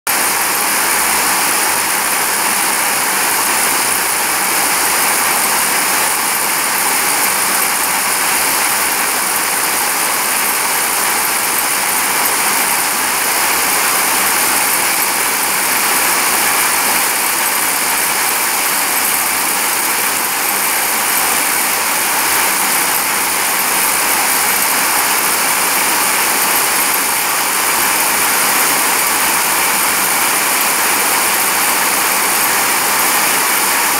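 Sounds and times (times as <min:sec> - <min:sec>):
spinning machine hissing whir: 0:00.1 - 0:33.9.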